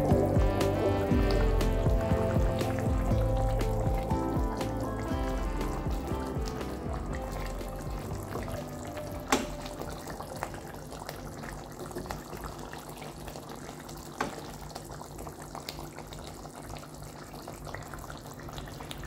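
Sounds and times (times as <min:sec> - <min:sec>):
bubbles popping: 0:00.0 - 0:19.0
curry simmering in a steel pan: 0:00.2 - 0:19.0.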